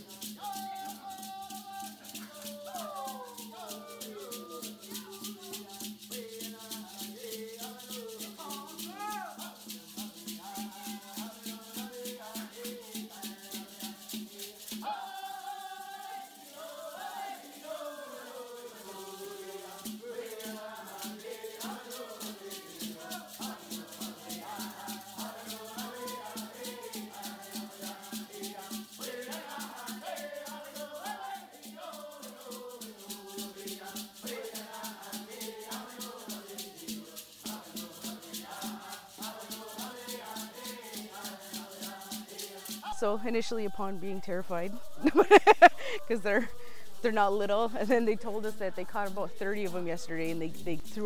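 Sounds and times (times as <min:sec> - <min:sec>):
rattle shaken in fast beat: 0:00.0 - 0:51.0.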